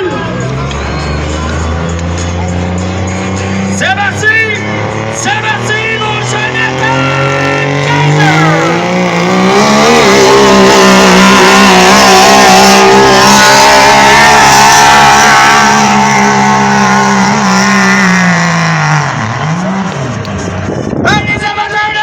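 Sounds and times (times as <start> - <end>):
engine revving at full throttle: 0.4 - 21.0.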